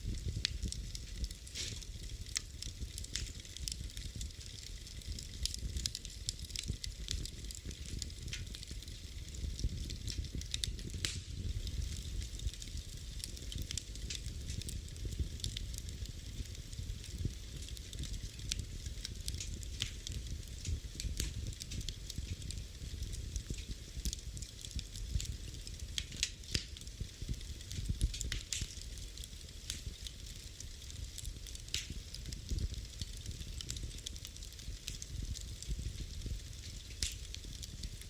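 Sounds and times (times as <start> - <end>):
fire crackles and pops: 0.0 - 38.0
wood fire rumble and hiss: 0.0 - 38.0.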